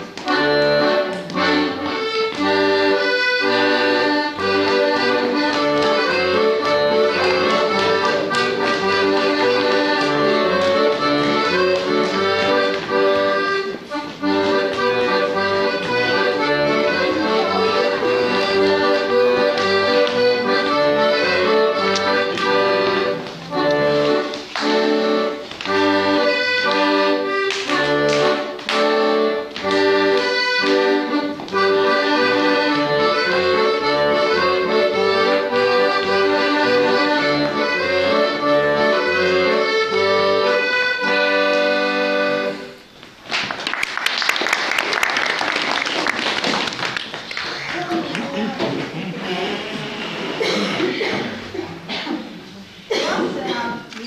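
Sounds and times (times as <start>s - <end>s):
accordion folk dance music: 0.0s - 54.0s.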